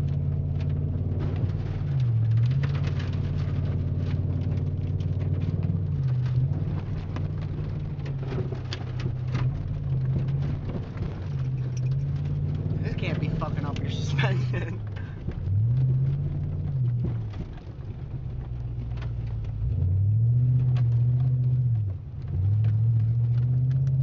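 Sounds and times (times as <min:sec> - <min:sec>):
pickup engine droning inside cab: 0:00.0 - 0:24.0.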